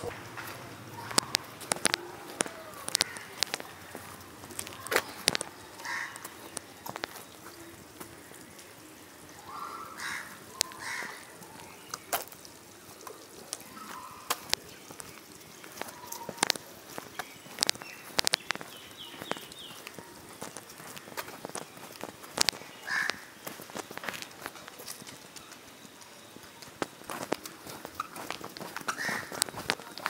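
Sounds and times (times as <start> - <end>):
footsteps on pavement: 0.0 - 8.7, 10.0 - 30.0
birds chirping: 0.0 - 30.0.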